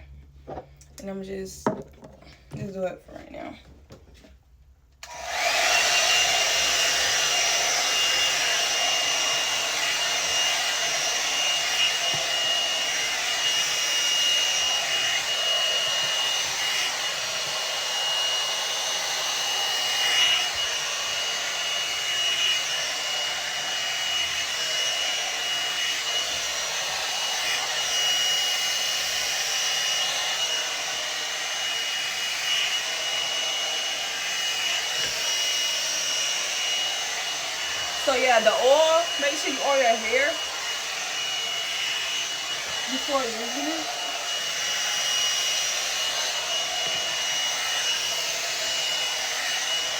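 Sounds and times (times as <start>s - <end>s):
hot-air brush blowing: 5.0s - 49.9s.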